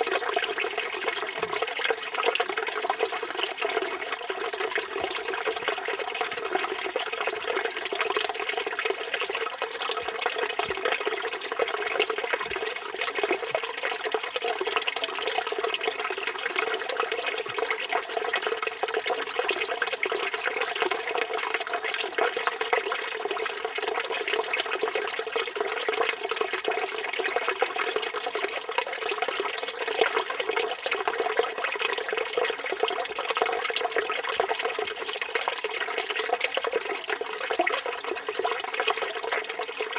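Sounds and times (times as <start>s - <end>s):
fountain water splashing into basin: 0.0s - 39.9s.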